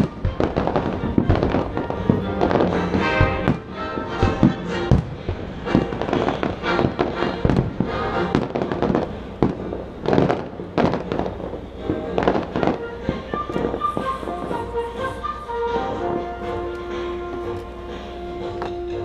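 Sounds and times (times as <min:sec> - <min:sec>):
fireworks booming and crackling: 0:00.0 - 0:19.0
show music: 0:00.0 - 0:19.0.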